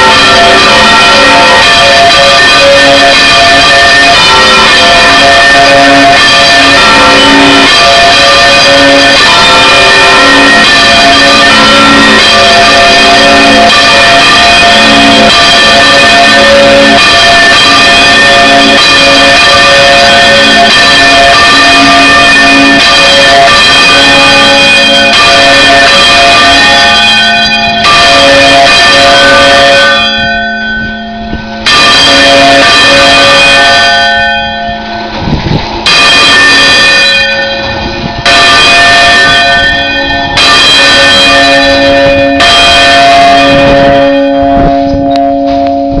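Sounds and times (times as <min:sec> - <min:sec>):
church bells ringing: 0:00.0 - 0:46.0.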